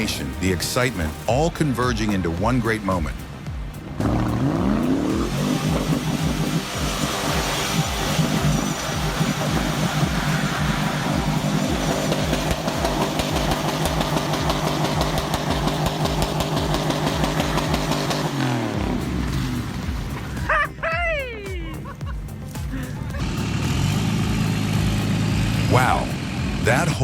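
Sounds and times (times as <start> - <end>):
off-road vehicle engine revving: 1.1 - 20.8, 21.7 - 27.0.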